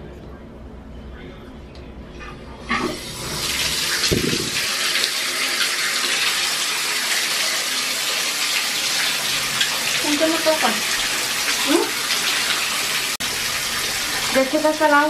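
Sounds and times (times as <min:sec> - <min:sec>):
water pouring into empty bathtub: 0:02.7 - 0:15.0.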